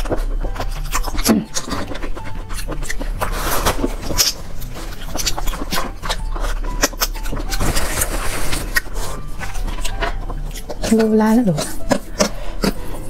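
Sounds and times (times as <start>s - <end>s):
wet chewing and smacking: 0.0s - 13.0s.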